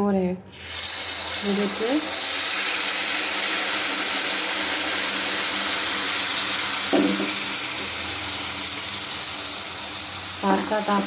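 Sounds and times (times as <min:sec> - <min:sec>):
syrup sizzling in a pan: 0:00.5 - 0:11.0.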